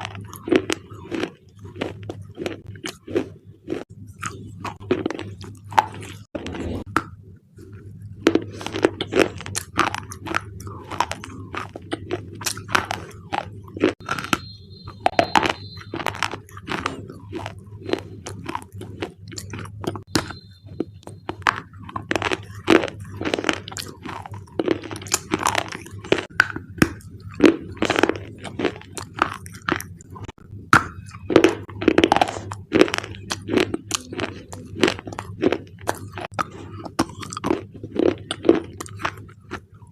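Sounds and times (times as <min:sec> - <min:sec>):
crunchy bars being chewed: 0:00.0 - 0:39.9
steady low hum: 0:00.0 - 0:39.9.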